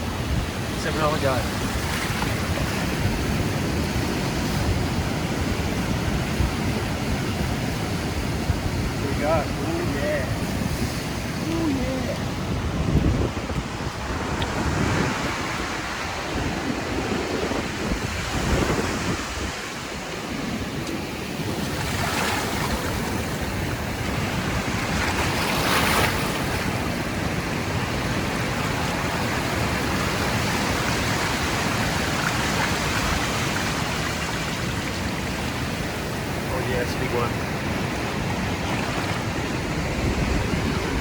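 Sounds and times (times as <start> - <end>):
surf washing up beach: 0.0 - 41.0
wind gusting on microphone: 0.0 - 41.0.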